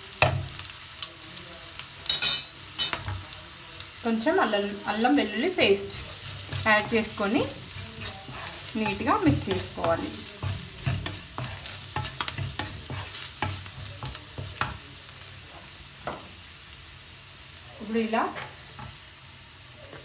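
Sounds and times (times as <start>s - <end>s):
low sizzle of frying: 0.0s - 20.0s
spoon stirring and scraping pan: 0.2s - 20.0s.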